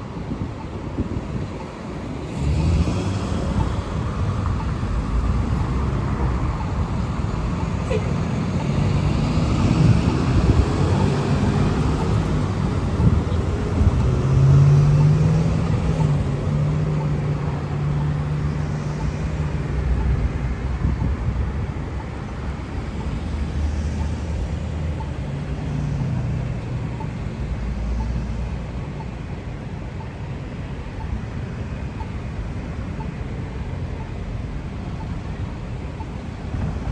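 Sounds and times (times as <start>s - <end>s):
road traffic passing: 0.0s - 36.9s
vehicle engine humming low: 0.2s - 36.9s.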